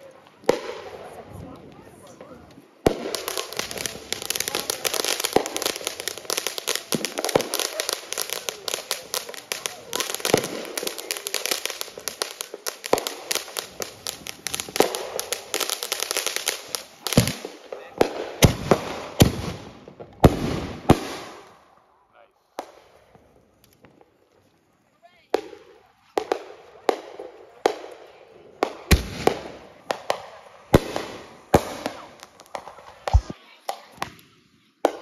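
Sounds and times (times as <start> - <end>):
firework bangs: 0.0 - 21.8, 25.3 - 35.0
fireworks crackling pops: 0.0 - 21.8, 22.4 - 35.0.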